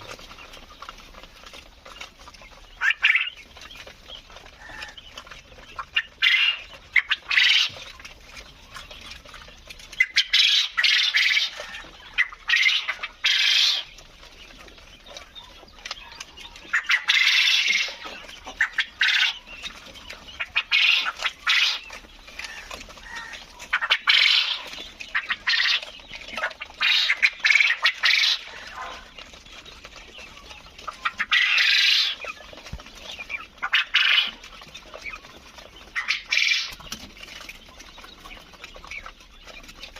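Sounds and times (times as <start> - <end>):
quail squawking calls: 2.2 - 39.9.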